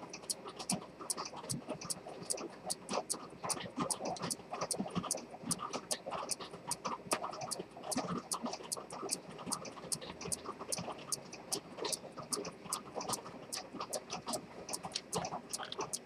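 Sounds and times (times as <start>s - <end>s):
pocket watch ticking: 0.2s - 16.0s.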